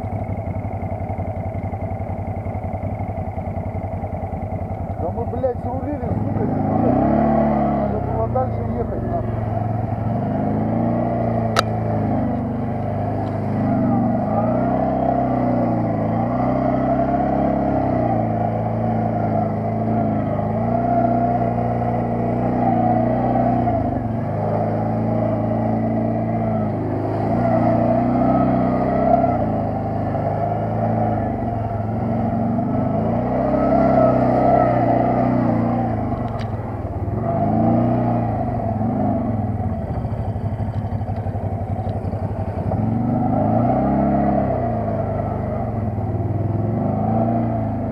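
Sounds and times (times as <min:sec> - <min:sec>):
quad bike engine running: 0:00.0 - 0:47.9.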